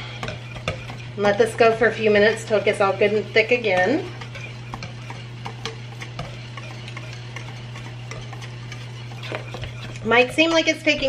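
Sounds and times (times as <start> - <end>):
steady low hum: 0.0 - 11.0
whisk clicking against metal pot: 0.0 - 11.0
whisk stirring pudding: 0.0 - 11.0.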